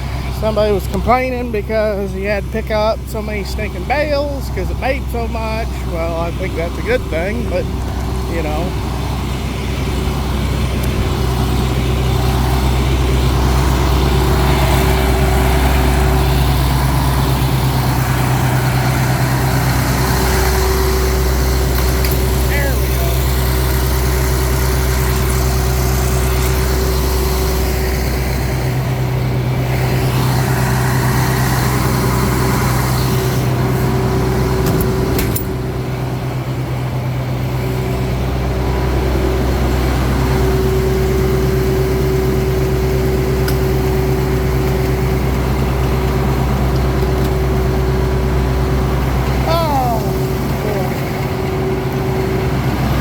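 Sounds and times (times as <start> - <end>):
farm machine engine running: 0.0 - 53.0
steady whine: 0.0 - 53.0.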